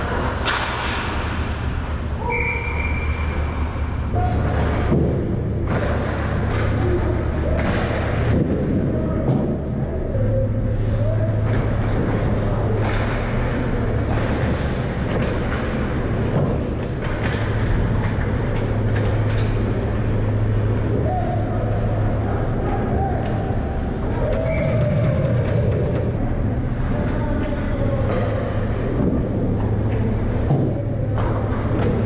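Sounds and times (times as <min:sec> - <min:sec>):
hockey sticks and puck clacking: 0:00.0 - 0:32.0.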